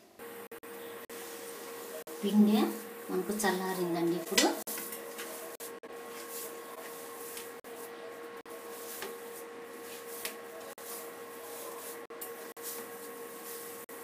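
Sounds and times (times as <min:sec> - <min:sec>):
electrical hum and hiss: 0:00.0 - 0:14.0
mid-pitched whine: 0:00.0 - 0:14.0.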